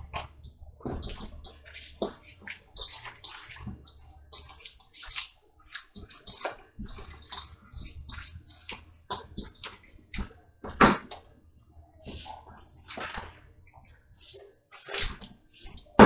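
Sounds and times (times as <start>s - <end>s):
wet squelching and sloshing: 0.0s - 16.0s.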